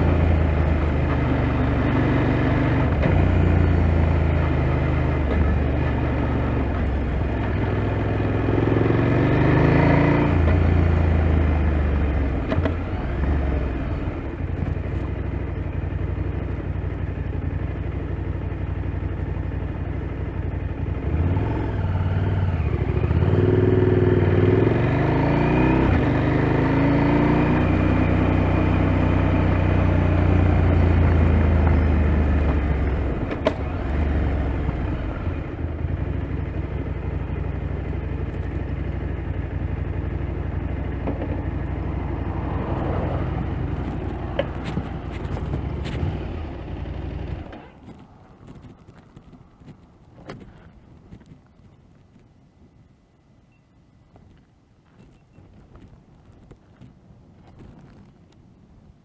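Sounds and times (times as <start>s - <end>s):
motorcycle engine revving: 0.0s - 51.2s.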